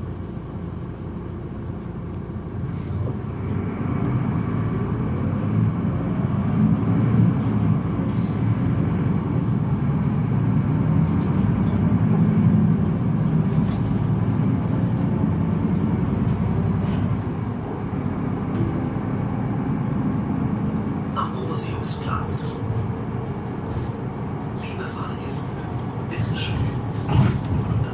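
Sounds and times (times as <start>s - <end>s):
bus diesel engine rumble: 0.0s - 27.9s.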